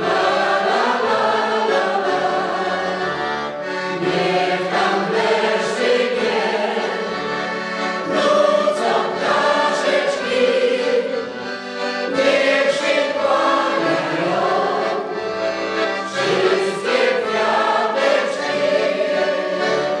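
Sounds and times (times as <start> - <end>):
accordion: 0.0 - 20.0
choir singing: 0.0 - 20.0.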